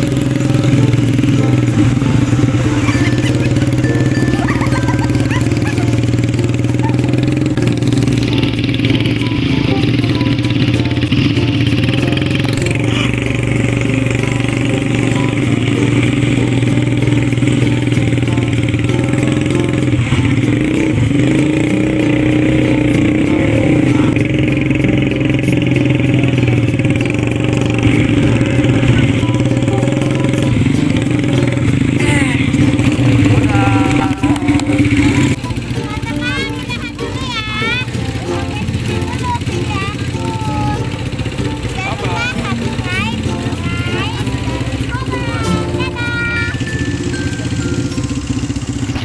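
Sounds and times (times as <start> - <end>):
small atv engine running: 0.0 - 49.0.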